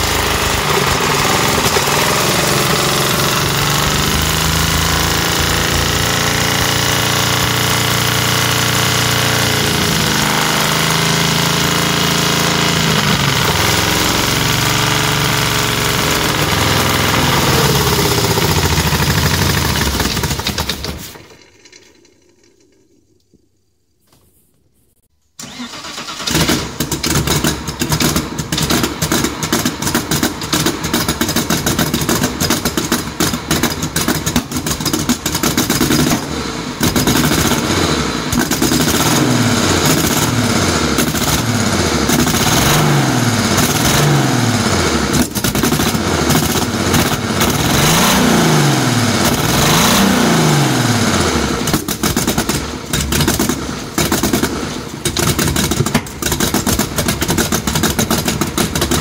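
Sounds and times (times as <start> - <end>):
car engine revving with pops: 0.0 - 22.5, 26.3 - 59.0.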